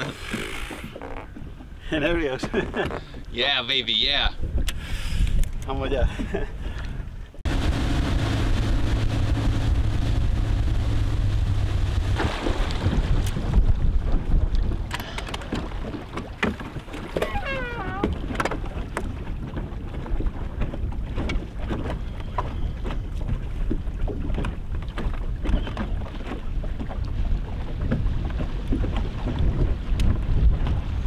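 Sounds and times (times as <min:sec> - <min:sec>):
water around boat: 0:00.0 - 0:31.0
wind on microphone: 0:03.9 - 0:31.0.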